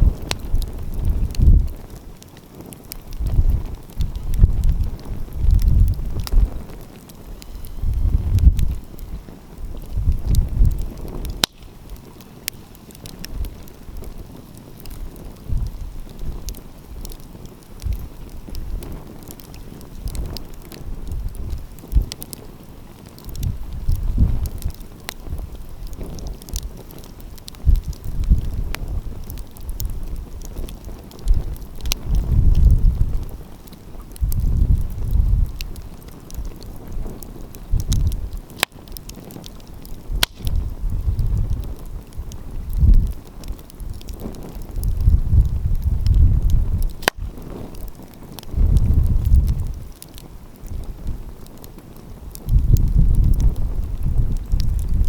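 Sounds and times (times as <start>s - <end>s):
wind on microphone: 0.0s - 55.0s
wood fire crackling and popping: 0.0s - 55.0s.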